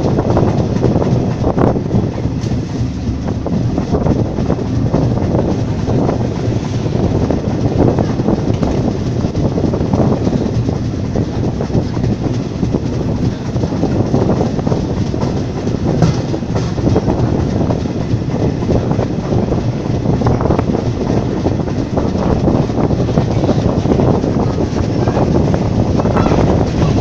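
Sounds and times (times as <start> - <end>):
train wheels clattering on rails: 0.0 - 27.0.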